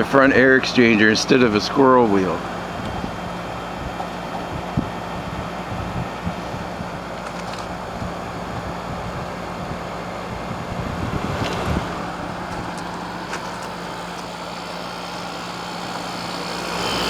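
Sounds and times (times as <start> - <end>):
air conditioner compressor hum: 0.0 - 17.0
air conditioner fan rushing: 0.0 - 17.0.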